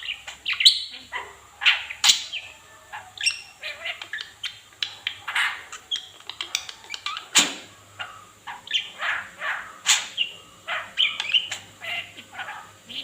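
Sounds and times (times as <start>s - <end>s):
lovebird chirping: 0.0s - 13.0s.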